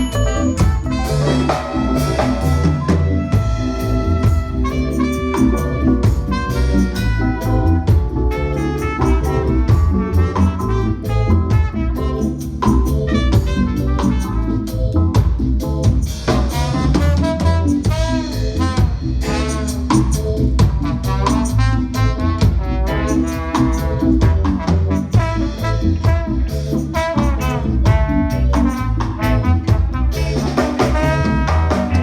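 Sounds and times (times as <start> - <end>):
horn section melody: 0.0 - 15.2, 16.2 - 32.0
drum kit: 0.0 - 32.0
heavy bass line: 0.0 - 32.0.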